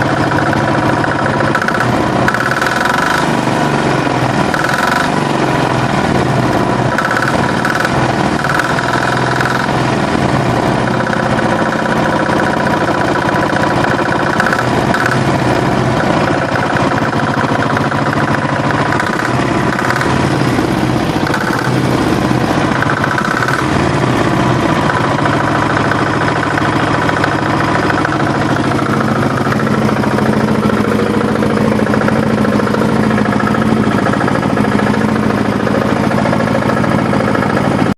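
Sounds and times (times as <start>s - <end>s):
diesel engine running steadily: 0.0s - 37.9s.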